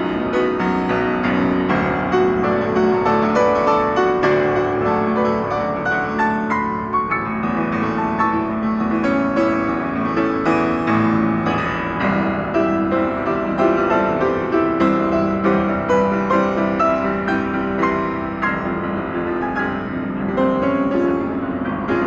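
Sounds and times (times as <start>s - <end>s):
keyboard melody: 0.0s - 22.0s.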